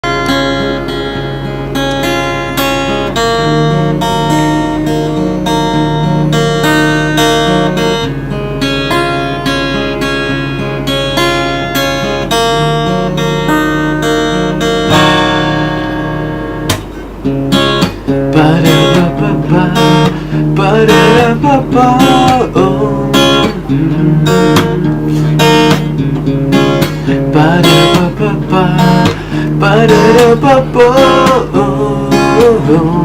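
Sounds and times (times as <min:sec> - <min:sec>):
acoustic guitar picking a melody: 0:00.0 - 0:33.0
guitar chord ringing: 0:00.0 - 0:33.0.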